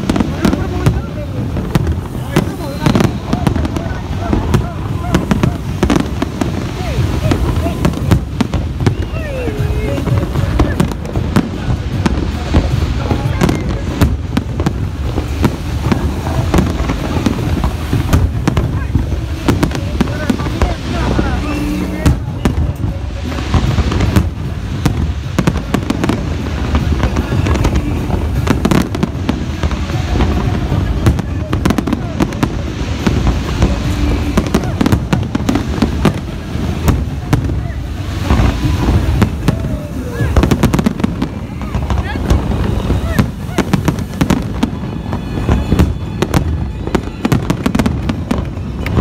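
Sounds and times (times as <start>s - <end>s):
fireworks bangs and crackles: 0.0s - 49.0s
rumble of fireworks booms: 0.0s - 49.0s.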